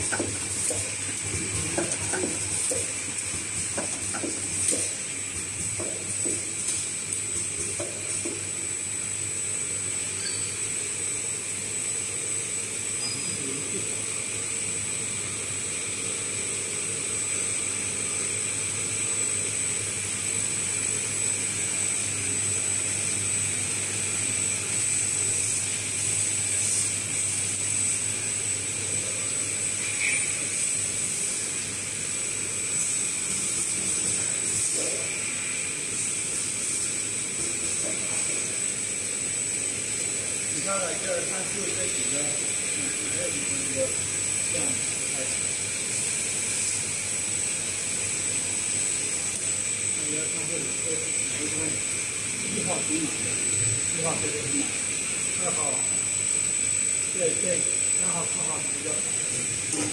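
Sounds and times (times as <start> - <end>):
high-pitched machine whine: 0.0 - 59.9
machinery humming: 0.0 - 59.9.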